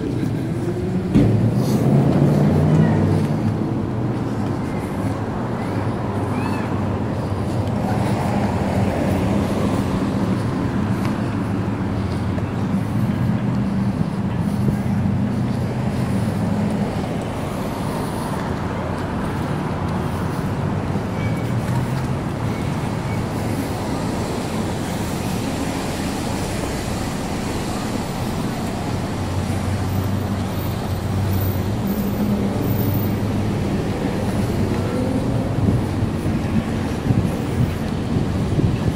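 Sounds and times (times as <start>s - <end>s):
engine hum: 0.0s - 38.9s
street traffic: 0.0s - 38.9s.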